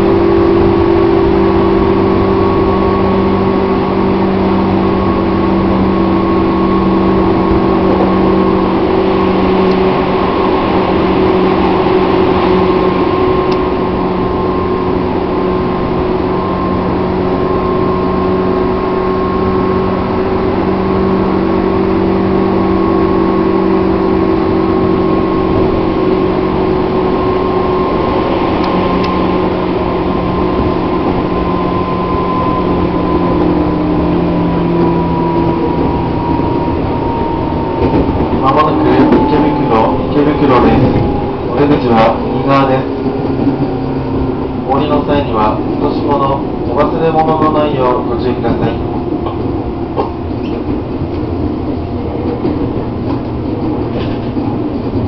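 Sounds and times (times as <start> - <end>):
electric train motor hum: 0.0 - 55.0
wheels rumbling on rails: 0.0 - 55.0.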